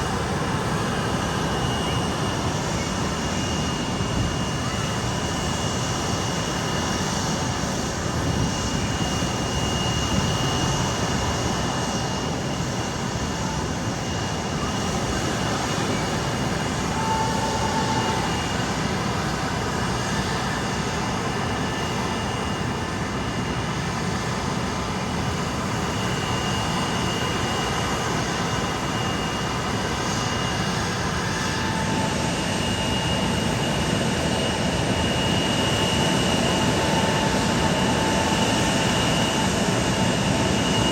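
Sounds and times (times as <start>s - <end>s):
high engine whine: 0.0s - 40.9s
jet engines rushing: 0.0s - 40.9s.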